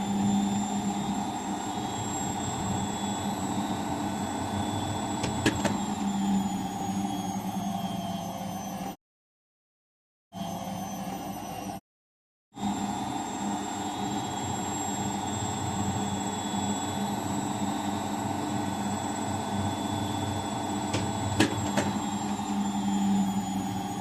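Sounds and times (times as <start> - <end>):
washing machine humming: 0.0 - 7.9, 12.6 - 24.0.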